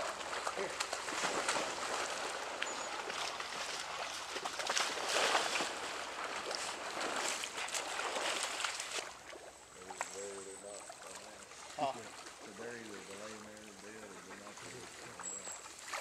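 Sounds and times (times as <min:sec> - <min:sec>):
small splashes and ticks: 0:00.0 - 0:16.0
water sloshing from wading: 0:00.0 - 0:16.0.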